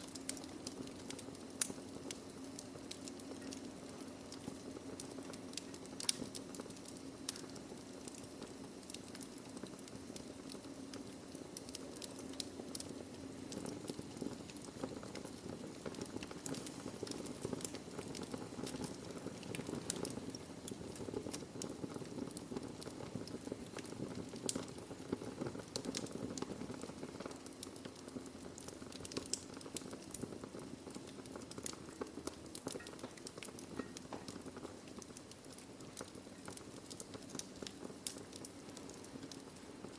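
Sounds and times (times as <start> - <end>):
burning logs crackling and popping: 0.0 - 39.9
low rush of flame: 0.0 - 39.9.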